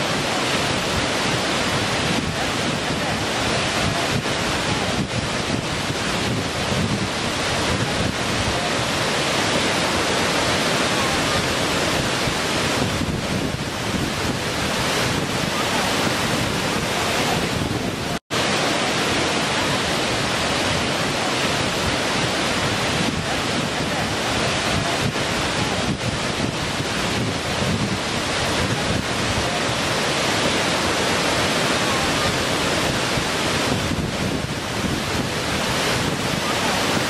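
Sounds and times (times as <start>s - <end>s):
waterfall rushing over rock: 0.0s - 37.0s.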